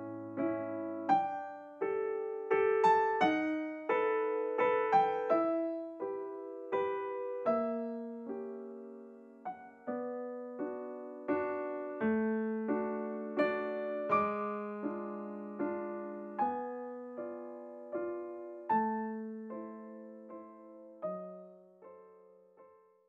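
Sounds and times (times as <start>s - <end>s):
slow gentle piano piece: 0.0s - 23.0s.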